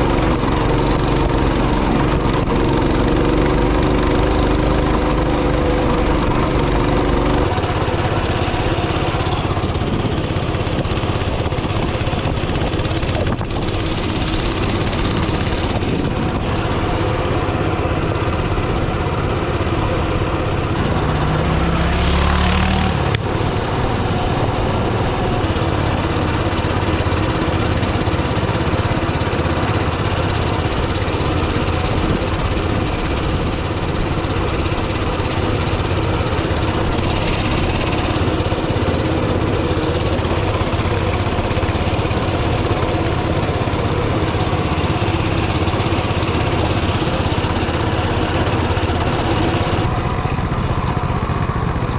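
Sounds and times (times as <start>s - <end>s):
mini bike engine running: 0.0s - 51.9s.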